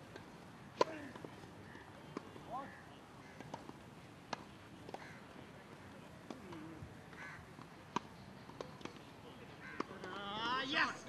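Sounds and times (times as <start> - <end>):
tennis balls struck by rackets: 0.0 - 10.5.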